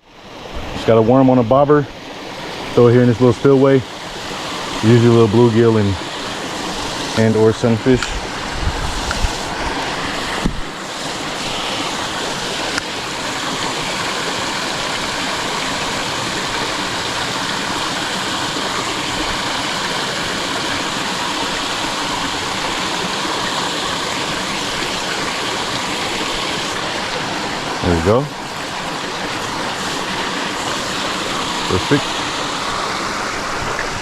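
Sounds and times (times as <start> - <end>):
water rushing over spillway: 0.0 - 34.0.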